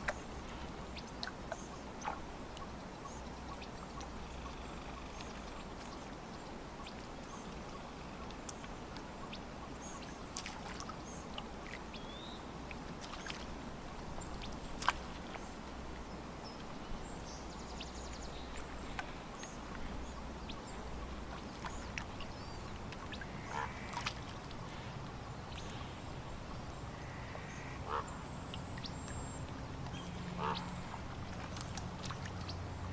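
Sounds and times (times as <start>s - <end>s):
water lapping against shore: 0.0s - 32.9s.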